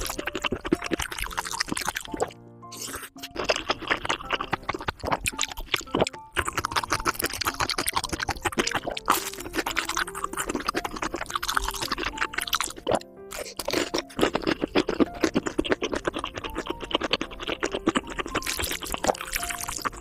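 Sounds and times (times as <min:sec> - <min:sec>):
wet chewing and slurping: 0:00.0 - 0:20.0.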